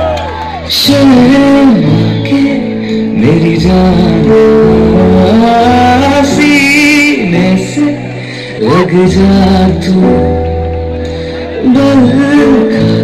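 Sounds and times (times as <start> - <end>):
steady bass line: 0.0 - 13.0.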